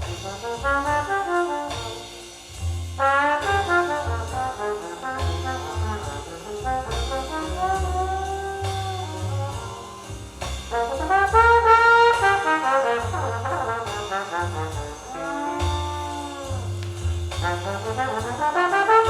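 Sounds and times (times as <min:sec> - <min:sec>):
bass line: 0:00.0 - 0:19.0
jazz brass holding long notes: 0:00.0 - 0:19.0.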